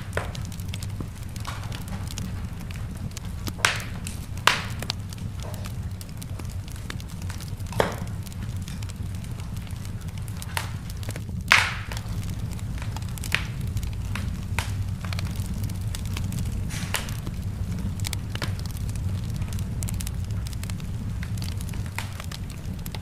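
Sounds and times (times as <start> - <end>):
fire crackles and pops: 0.0 - 23.0
fire flames rumbling: 0.0 - 23.0.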